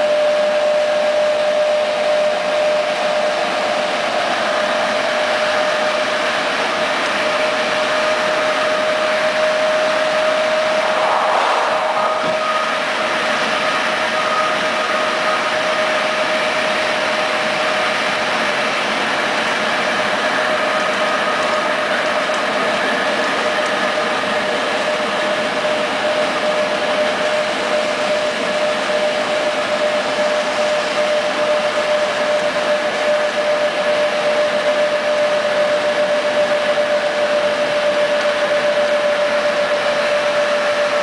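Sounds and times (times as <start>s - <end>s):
train wheels rushing on rails: 0.0s - 34.1s
constant high hum: 0.0s - 41.0s.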